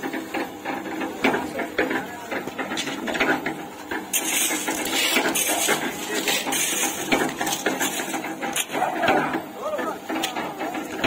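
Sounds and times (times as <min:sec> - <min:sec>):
concrete mixer drum rattling: 0:00.0 - 0:11.0.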